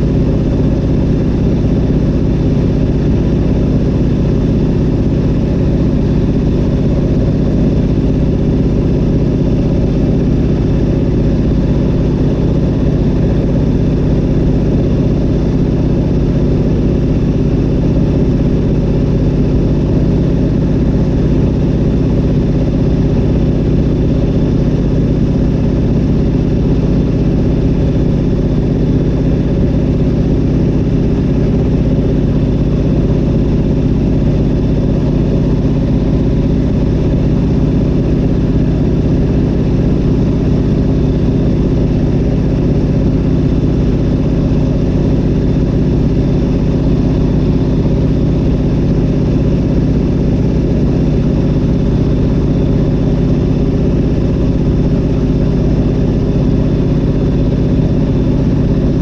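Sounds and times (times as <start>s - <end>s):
aircraft propeller engine in flight: 0.0s - 59.0s.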